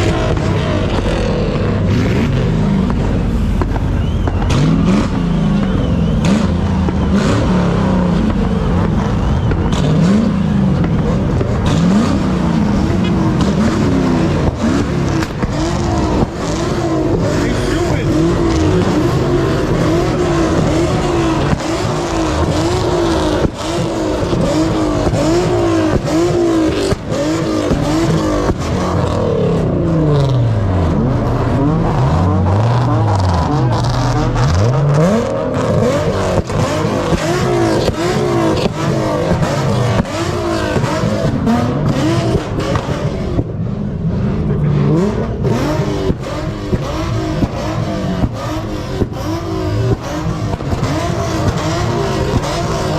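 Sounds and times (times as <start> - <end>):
car engines revving hard: 0.0 - 52.9.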